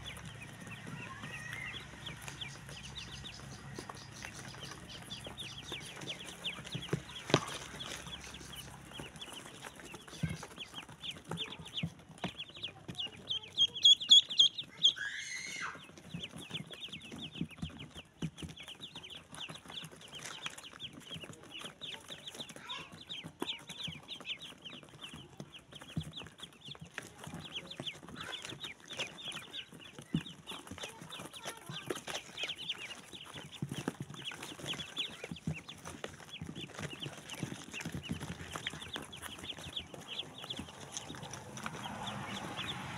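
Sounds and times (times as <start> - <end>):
ducklings peeping: 0.0 - 42.9.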